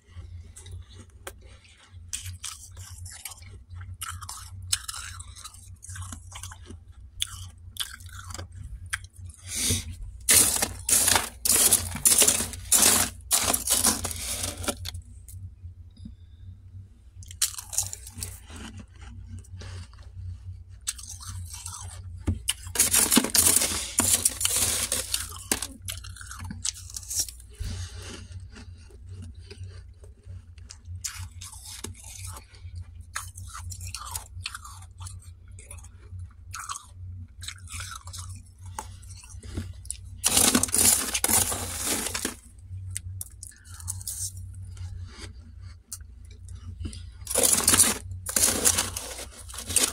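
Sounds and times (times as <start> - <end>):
frost being crunched and chewed: 0.2 - 15.4, 17.2 - 20.2, 20.8 - 49.9.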